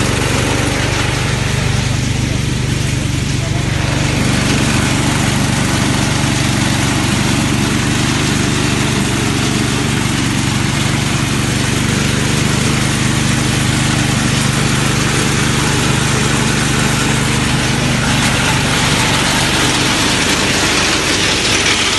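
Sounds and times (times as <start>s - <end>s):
small engine humming: 0.0s - 21.9s.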